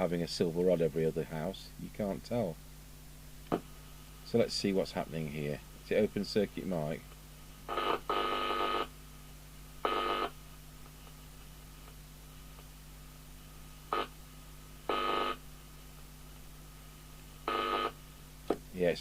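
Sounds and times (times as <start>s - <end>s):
low mains hum: 0.0s - 19.0s.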